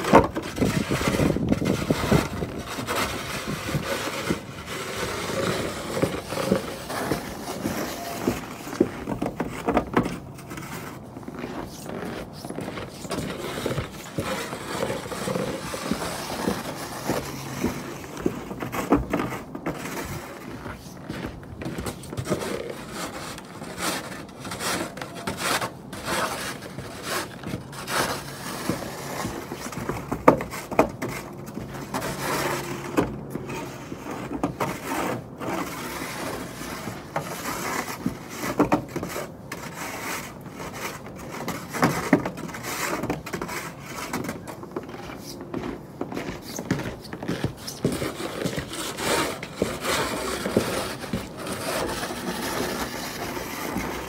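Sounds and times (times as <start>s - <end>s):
snow shovel scraping snow: 0.0s - 54.0s.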